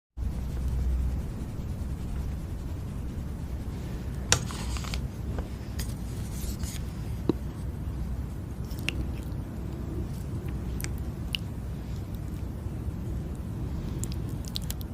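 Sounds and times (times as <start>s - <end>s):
low steady hum: 0.2s - 14.9s.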